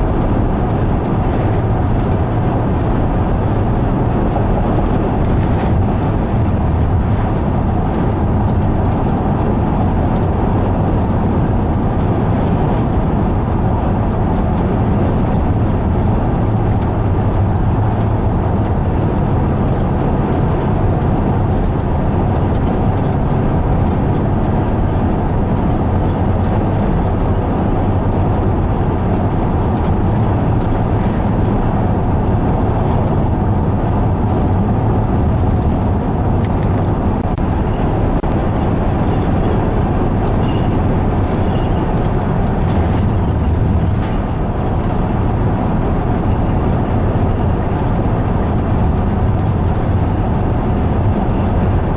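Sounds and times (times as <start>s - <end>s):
vehicle engine and tyre drone: 0.0s - 51.9s.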